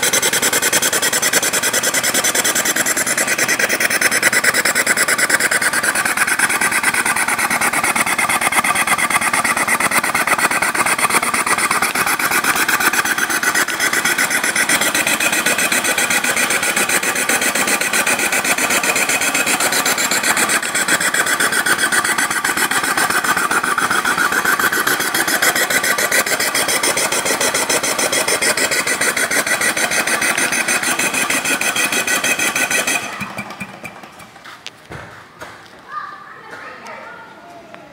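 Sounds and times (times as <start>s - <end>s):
diesel engine knocking: 0.0s - 34.6s.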